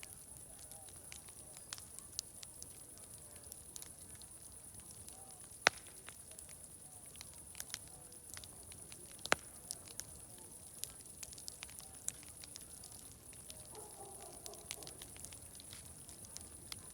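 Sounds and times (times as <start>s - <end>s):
sharp pops from fire: 0.0s - 16.9s
wood fire crackling: 0.0s - 16.9s.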